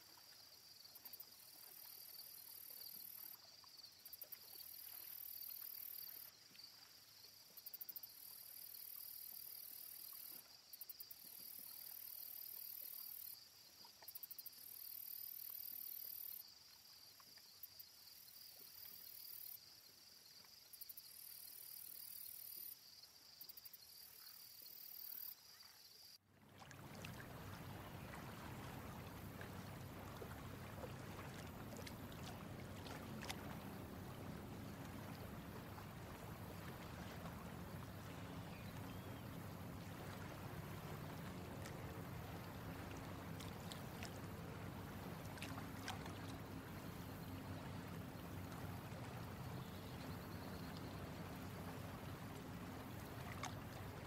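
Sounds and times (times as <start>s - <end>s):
insects chirring: 0.0s - 26.2s, 26.8s - 54.0s
moving water: 0.0s - 54.0s.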